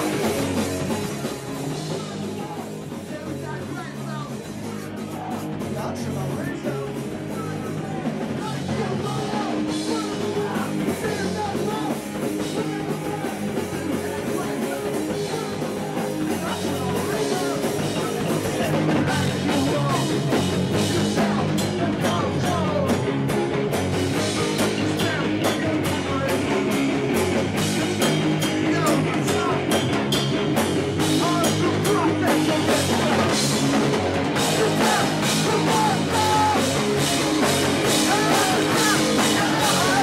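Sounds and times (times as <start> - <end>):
punk band playing live: 0.0 - 40.0.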